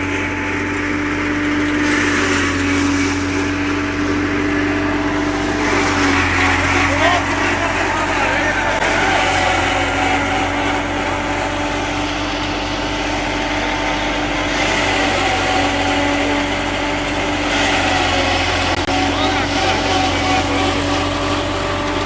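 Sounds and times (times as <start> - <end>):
machine drone with humming tones: 0.0 - 22.0.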